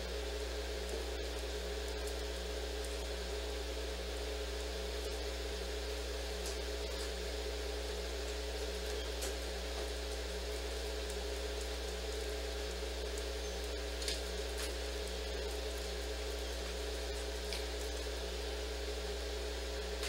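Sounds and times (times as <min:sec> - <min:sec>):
machine hum and whine: 0:00.0 - 0:20.0.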